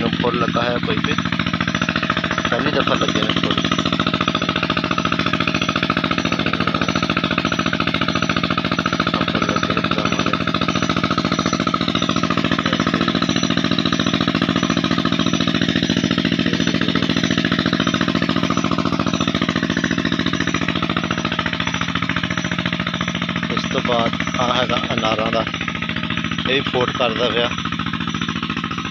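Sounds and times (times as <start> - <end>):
diesel engine knocking: 0.0 - 28.9.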